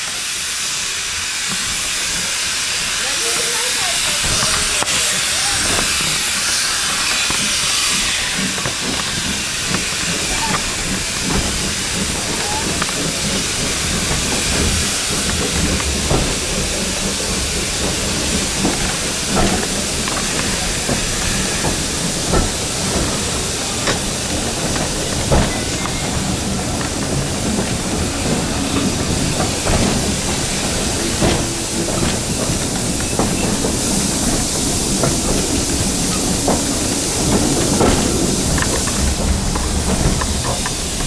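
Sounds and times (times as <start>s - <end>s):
steam hissing: 0.0s - 41.0s
train rumbling on rails: 0.0s - 41.0s
wheels and couplings clanking: 3.1s - 41.0s.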